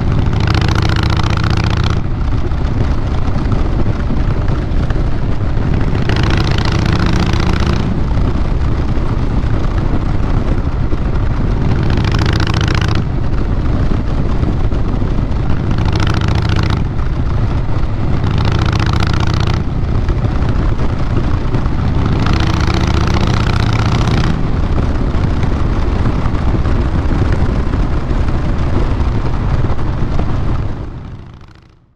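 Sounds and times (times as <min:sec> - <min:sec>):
motorcycle exhaust note: 0:00.0 - 0:31.9.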